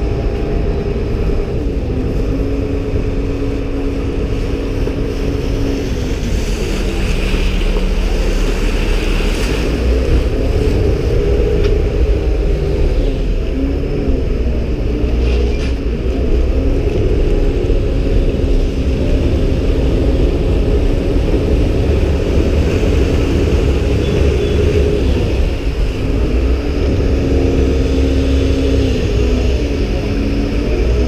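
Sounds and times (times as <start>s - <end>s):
boat diesel engine rumbling: 0.0s - 31.0s
churning wake water: 0.0s - 31.0s.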